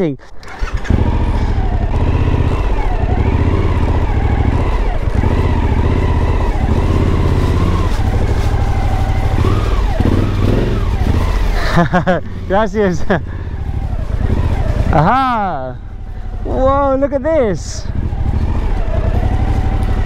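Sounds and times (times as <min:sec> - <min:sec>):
motorcycle engine at low revs: 0:00.2 - 0:20.0.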